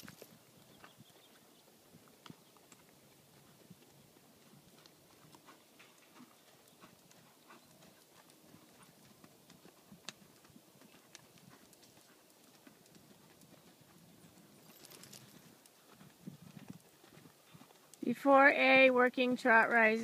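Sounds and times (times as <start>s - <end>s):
horse hoofbeats on sand: 0.0s - 20.0s.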